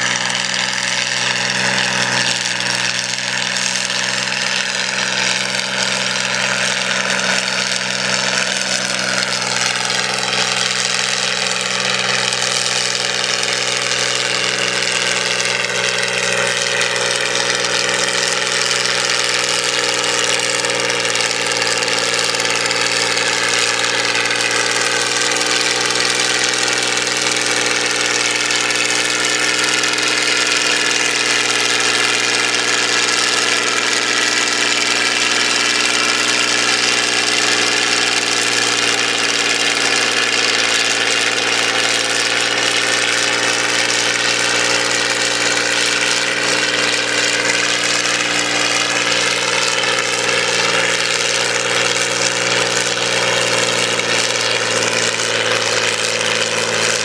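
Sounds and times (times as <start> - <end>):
tractor engine under heavy load: 0.0 - 57.0.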